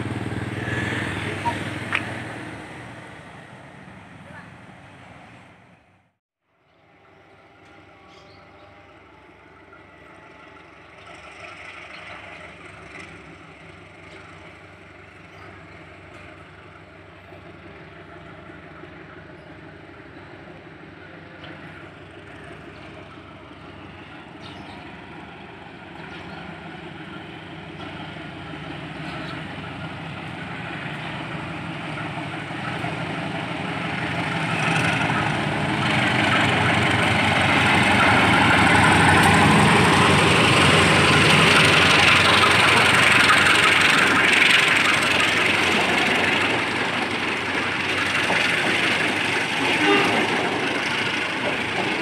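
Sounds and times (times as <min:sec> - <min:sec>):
diesel locomotive engine running: 0:00.0 - 0:52.0.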